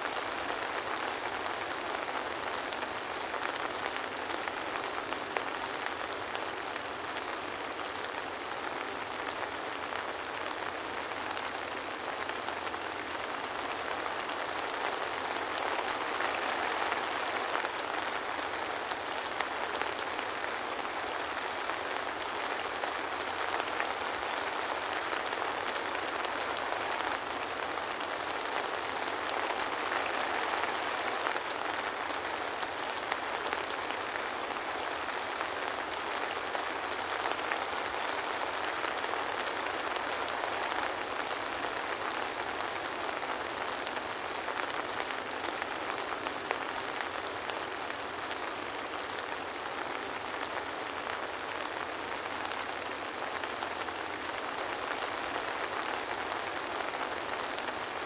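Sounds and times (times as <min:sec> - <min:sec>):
soft rain patter: 0:00.0 - 0:58.0.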